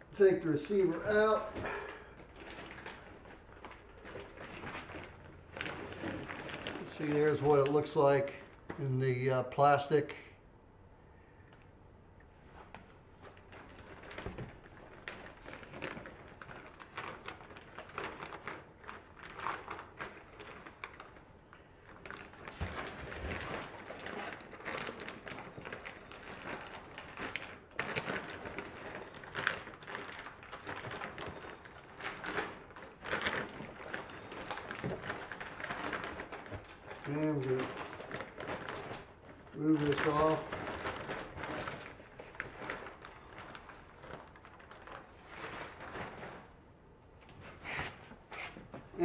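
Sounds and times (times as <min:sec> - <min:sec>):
plastic wrapping crinkling: 0:00.0 - 0:09.9, 0:12.3 - 0:49.0.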